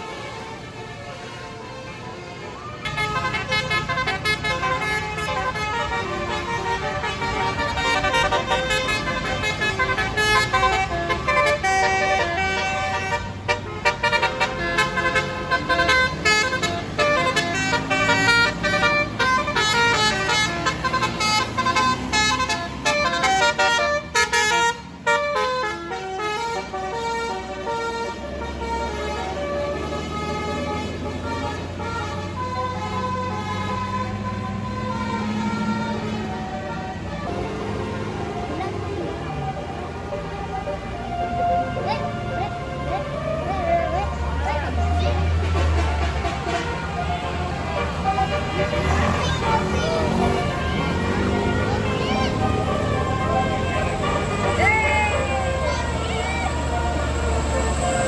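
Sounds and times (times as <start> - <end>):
bus engine running: 0.0 - 58.0
musical bus horn tune: 0.0 - 58.0.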